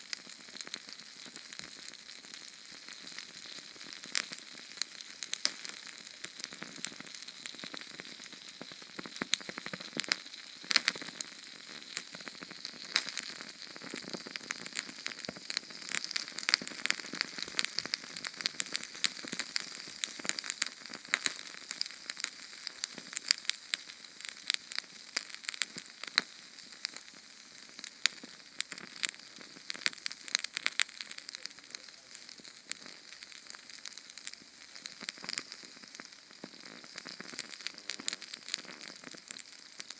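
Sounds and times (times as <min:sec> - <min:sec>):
small flame crackling and hissing: 0:00.0 - 0:39.9.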